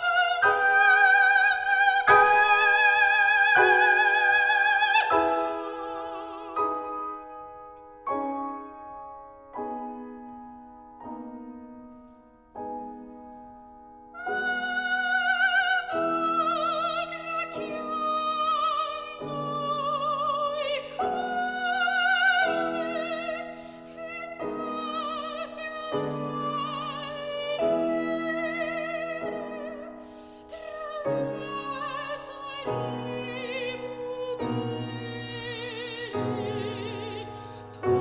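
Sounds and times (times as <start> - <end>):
soprano singing with vibrato: 0.0 - 7.5, 14.2 - 38.0
piano chords: 0.0 - 38.0.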